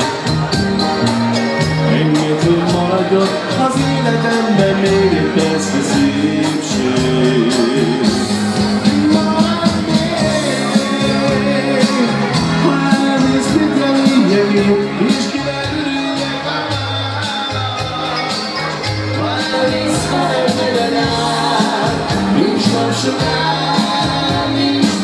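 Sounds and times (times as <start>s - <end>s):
bass guitar: 0.0s - 25.0s
person singing: 0.0s - 25.0s
steady drum beat: 0.0s - 25.0s.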